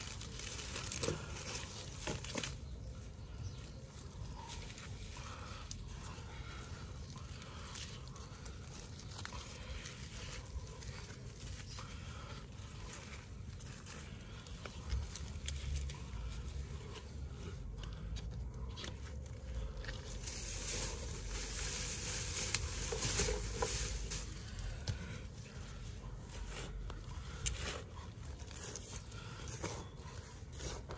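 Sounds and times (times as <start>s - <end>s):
dry leaves rustling and crinkling: 0.0s - 30.9s.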